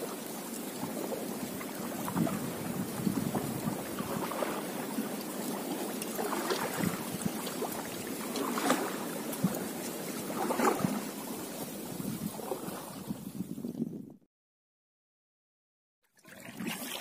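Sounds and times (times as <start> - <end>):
kayak paddle splashing: 0.0 - 13.5, 16.1 - 17.0
moving water: 0.0 - 13.9, 16.0 - 17.0.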